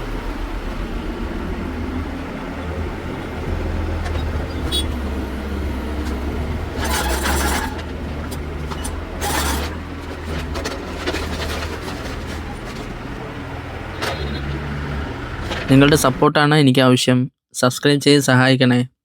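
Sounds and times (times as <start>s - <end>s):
excavator diesel engine running: 0.0s - 16.3s.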